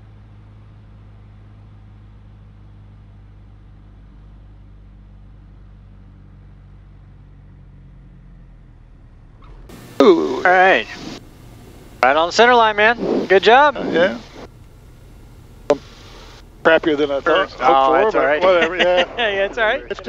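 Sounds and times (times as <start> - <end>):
small plane engine drone: 0.0 - 20.0.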